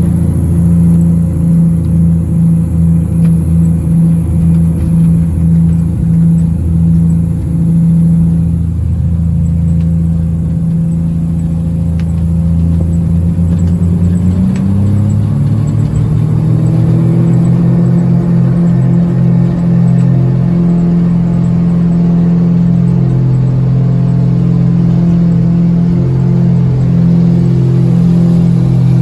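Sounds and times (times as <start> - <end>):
propeller plane engines droning: 0.0 - 29.0.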